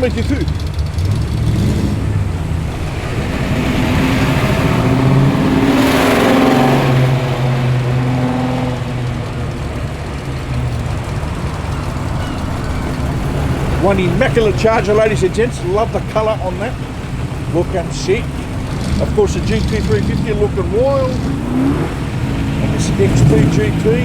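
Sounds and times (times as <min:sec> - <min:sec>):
car engine passing by: 0:00.0 - 0:24.0.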